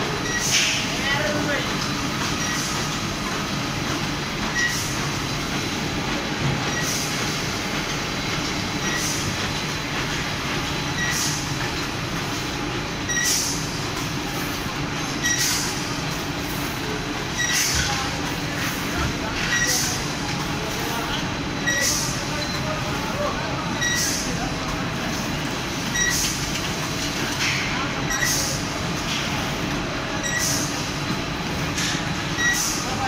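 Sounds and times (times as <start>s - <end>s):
machine hum and rattle: 0.0s - 33.0s.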